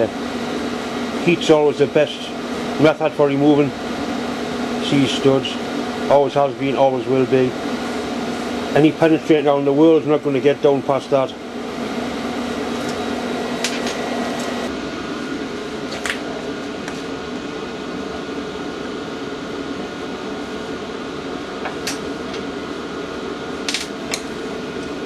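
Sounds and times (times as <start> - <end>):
heater droning: 0.0 - 25.0.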